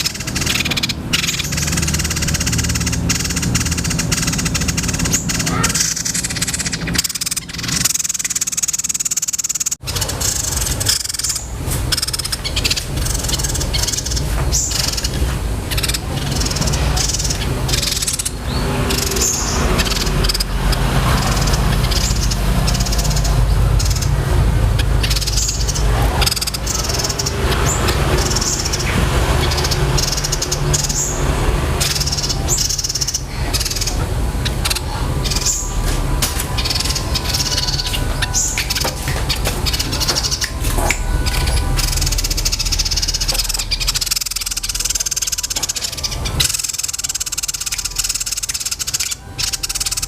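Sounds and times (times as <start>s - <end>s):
songbird shrill chatter: 0.0s - 50.0s.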